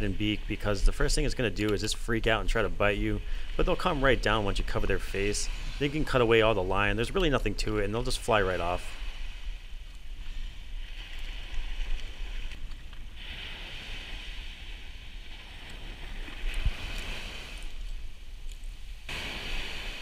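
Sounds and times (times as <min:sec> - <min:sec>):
surf washing: 0:00.0 - 0:20.0
wind rumbling on microphone: 0:00.0 - 0:20.0.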